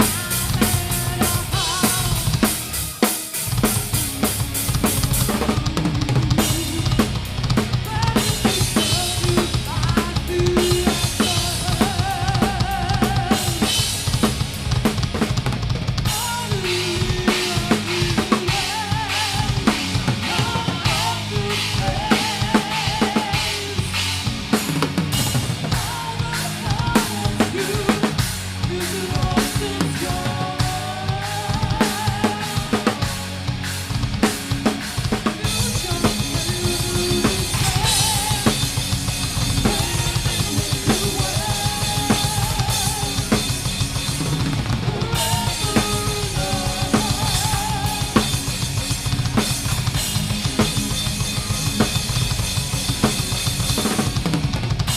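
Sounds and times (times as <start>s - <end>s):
band playing live: 0.0s - 54.9s
rapid bass drum beats: 0.0s - 54.9s.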